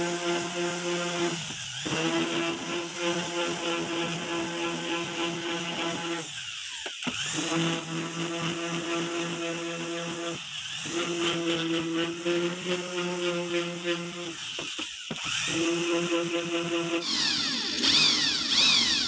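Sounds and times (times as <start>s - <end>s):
orbital sander sanding wood: 0.0s - 19.0s.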